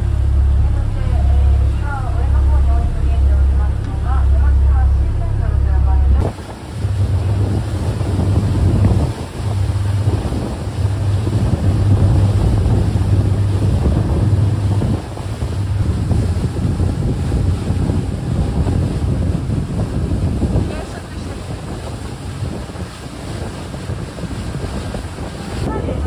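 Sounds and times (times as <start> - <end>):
boat engine low rumble: 0.0 - 26.0
churning wake water: 0.0 - 26.0
wind buffeting microphone: 0.0 - 26.0.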